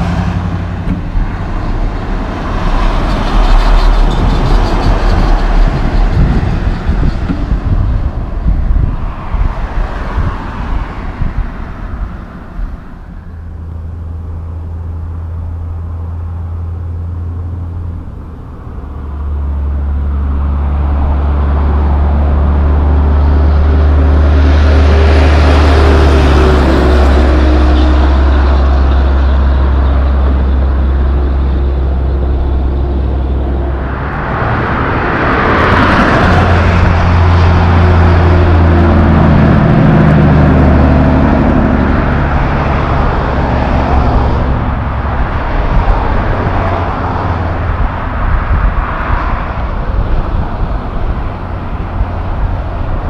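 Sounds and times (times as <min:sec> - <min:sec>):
dump trucks driving past: 0:00.0 - 0:53.0.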